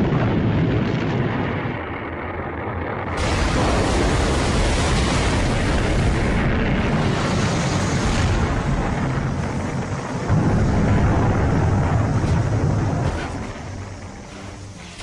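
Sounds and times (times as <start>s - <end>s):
missile explosion blast: 0.0s - 15.0s
rumble of fireball burning: 0.0s - 15.0s.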